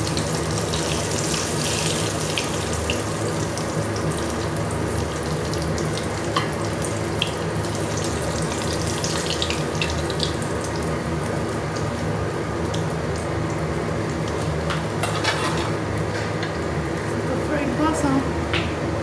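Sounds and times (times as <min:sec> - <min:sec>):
fish deep-frying in oil: 0:00.0 - 0:18.4.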